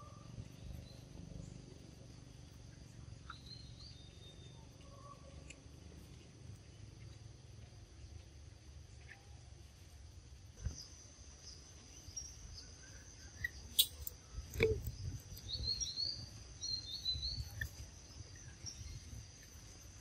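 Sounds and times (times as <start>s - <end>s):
small birds chirping: 0.0s - 8.2s, 10.6s - 20.0s.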